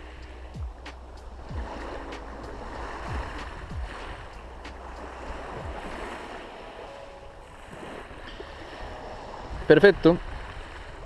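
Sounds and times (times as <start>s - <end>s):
waves washing onto pebble beach: 0.0s - 11.0s.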